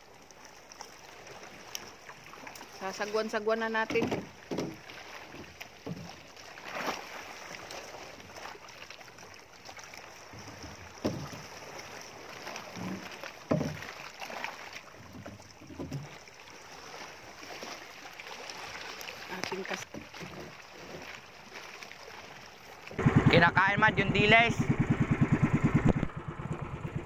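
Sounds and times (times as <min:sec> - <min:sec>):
paddle strokes in water: 0:00.0 - 0:27.0
sea: 0:00.0 - 0:27.0
wind: 0:00.0 - 0:27.0.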